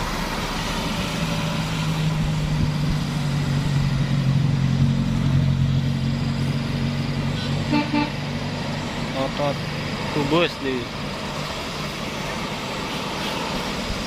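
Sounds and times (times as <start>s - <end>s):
heavy vehicle engine passing: 0.0s - 14.0s.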